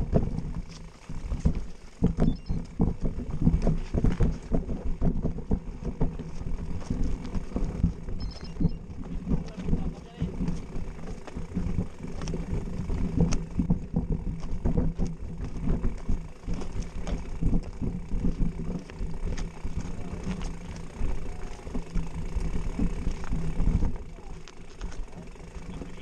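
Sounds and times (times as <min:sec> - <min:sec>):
bike knocking and rattling: 0:00.0 - 0:26.0
shoes scuffing on loose dirt: 0:00.0 - 0:26.0.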